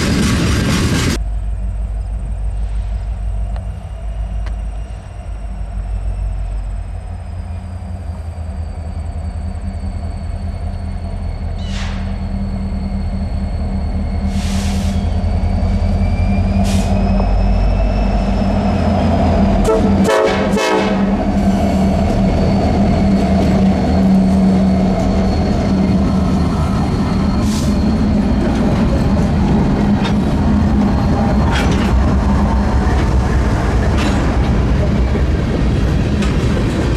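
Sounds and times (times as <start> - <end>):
diesel locomotive engines rumbling: 0.0 - 36.9.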